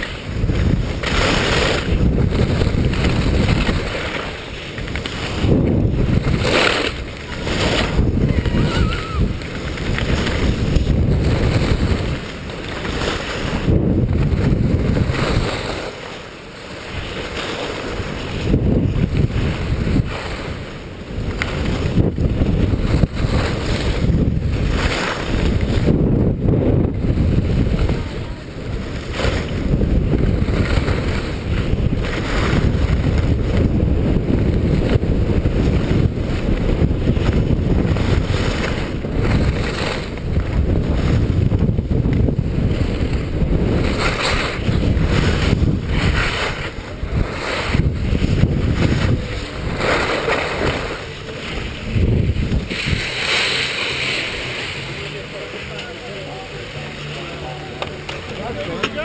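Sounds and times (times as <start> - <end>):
skis scraping on snow: 0.0 - 26.0, 27.1 - 59.0
wind rushing over microphone: 0.0 - 59.0.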